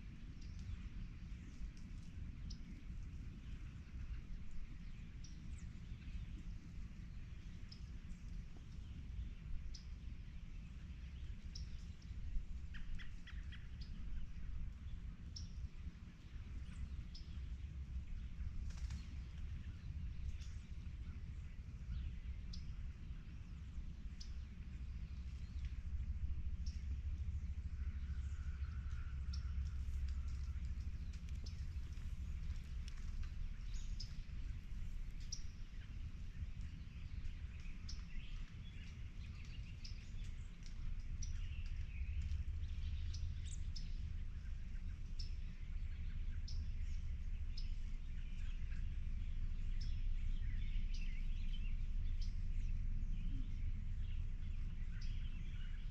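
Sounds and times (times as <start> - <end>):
steady low rumble: 0.0 - 55.9
wild birds chirping: 0.2 - 55.9.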